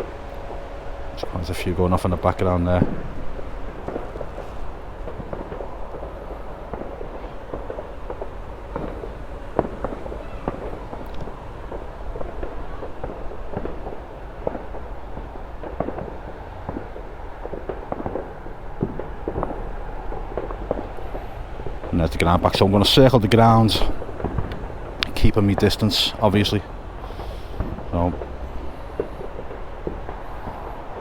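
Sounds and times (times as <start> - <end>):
distant fireworks bangs: 0.0 - 31.0
steady low rumble: 0.0 - 31.0.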